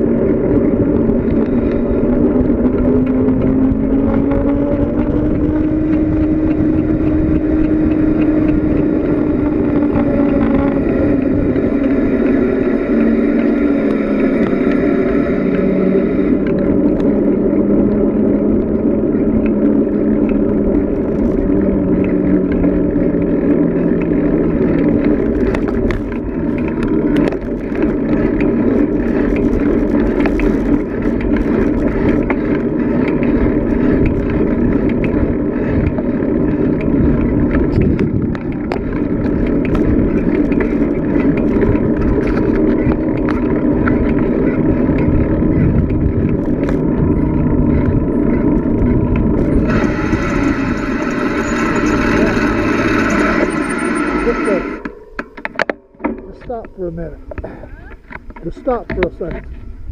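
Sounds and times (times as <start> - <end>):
humming tone: 0.0 - 58.3
bicycle road noise: 0.0 - 59.9
rushing wind: 0.0 - 59.9.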